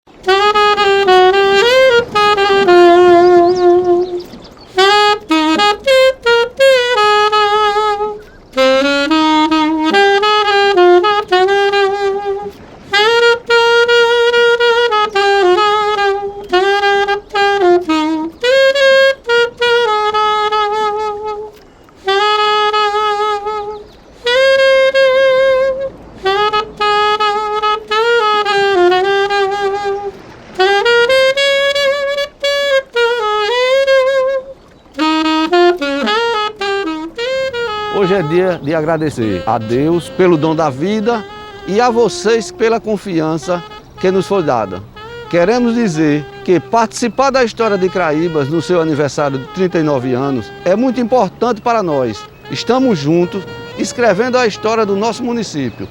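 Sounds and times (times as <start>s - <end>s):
solo saxophone melody: 0.1s - 55.9s.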